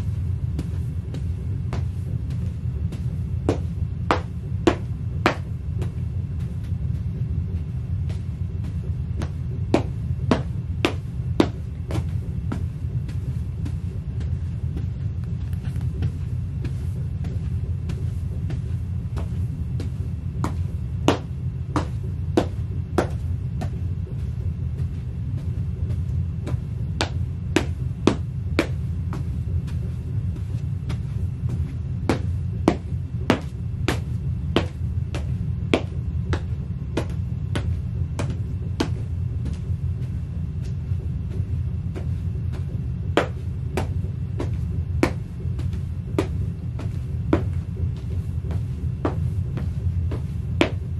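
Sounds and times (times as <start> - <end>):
boots stomping on plastic mat: 0.0 - 50.9
steady low rumble: 0.0 - 50.9.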